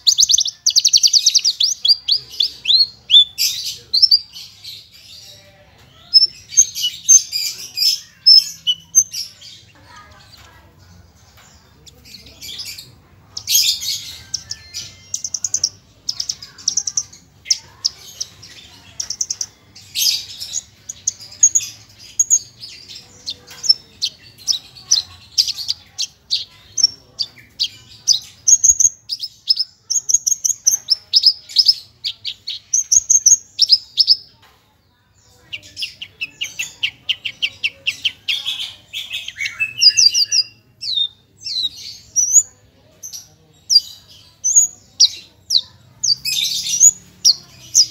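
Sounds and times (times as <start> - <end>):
bird singing rapid chirps and trills: 0.0 - 47.9.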